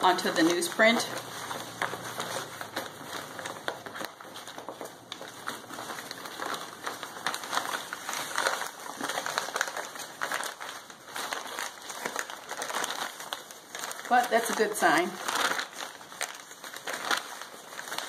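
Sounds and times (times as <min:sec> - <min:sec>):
newspaper rustling and crinkling: 0:00.0 - 0:18.0.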